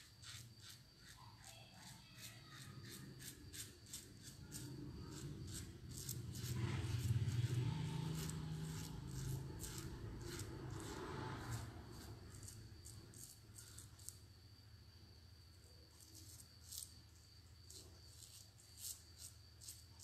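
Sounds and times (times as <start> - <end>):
razor scraping stubble: 0.0 - 14.2, 16.0 - 20.0.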